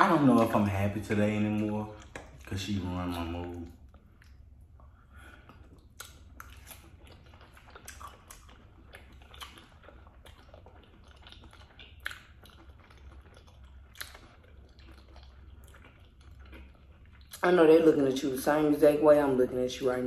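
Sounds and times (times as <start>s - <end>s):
chewing and eating mouth sounds: 0.0s - 20.0s
faint low hum: 0.0s - 20.0s.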